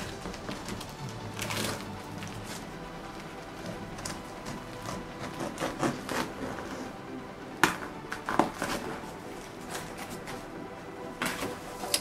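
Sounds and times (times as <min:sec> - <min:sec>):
cardboard box rustling and crackling: 0:00.0 - 0:07.0, 0:08.1 - 0:10.5, 0:11.2 - 0:12.0.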